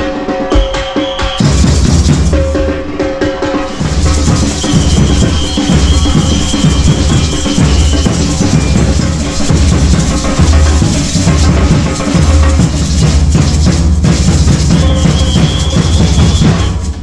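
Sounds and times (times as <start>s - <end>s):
samba drum group playing: 0.0s - 17.0s
deep bass drums: 1.4s - 2.8s, 3.7s - 17.0s.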